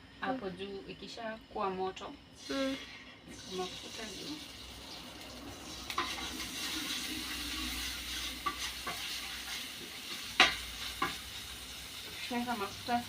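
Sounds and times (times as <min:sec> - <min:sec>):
oil sizzling in a frying pan: 0:02.4 - 0:13.0.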